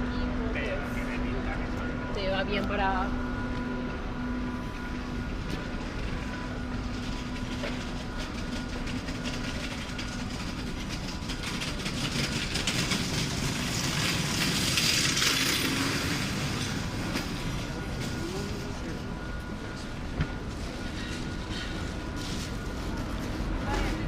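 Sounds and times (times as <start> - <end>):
faint hums: 0.0 - 24.0
train rumbling: 0.0 - 24.0.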